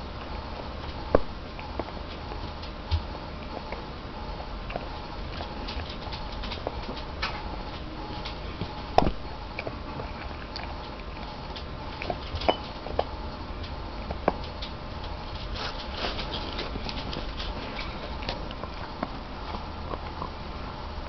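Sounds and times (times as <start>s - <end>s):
dog chewing on claws: 0.1s - 21.0s.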